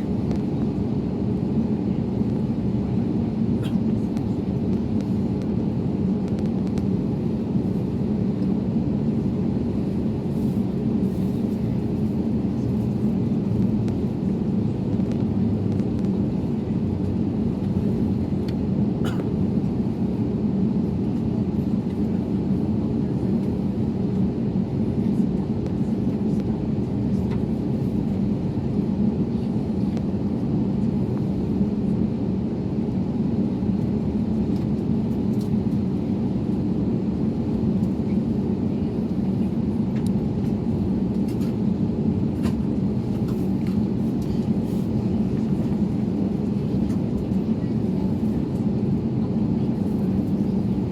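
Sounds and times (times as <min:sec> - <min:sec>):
airliner engine rumble and hum: 0:00.0 - 0:50.9.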